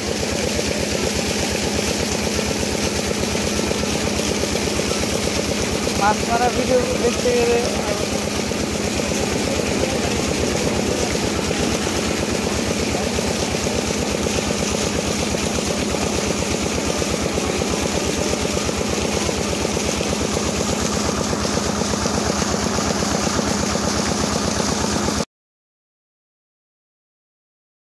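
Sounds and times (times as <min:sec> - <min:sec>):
water pouring from outlet: 0:00.0 - 0:25.2
water pump engine running: 0:00.0 - 0:25.3.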